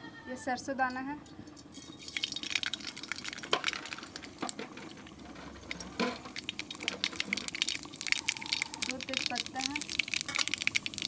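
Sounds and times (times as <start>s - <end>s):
seeds crackling in hot oil: 1.6s - 11.0s.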